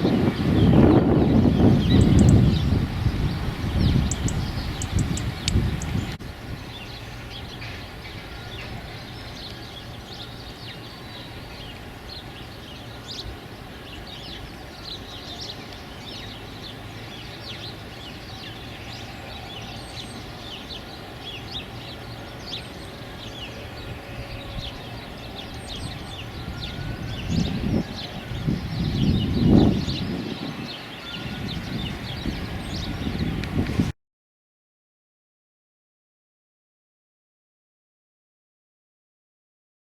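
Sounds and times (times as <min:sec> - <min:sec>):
wind gusts on microphone: 0:00.0 - 0:34.0
small birds chirping: 0:00.1 - 0:33.6.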